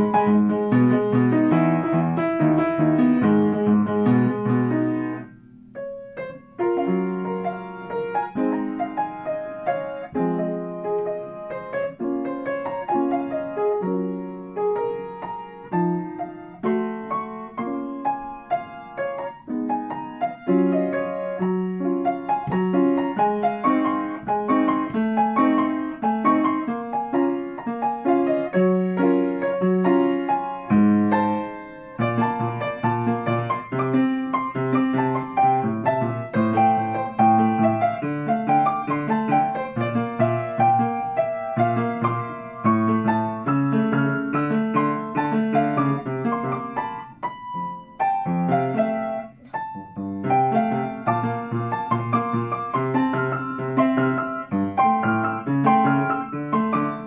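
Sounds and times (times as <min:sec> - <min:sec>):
upright piano playing: 0:00.0 - 0:57.0.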